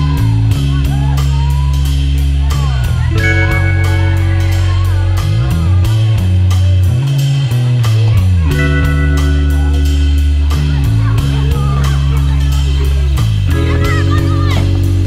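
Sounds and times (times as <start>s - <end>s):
background music with drum beat: 0.0s - 15.0s.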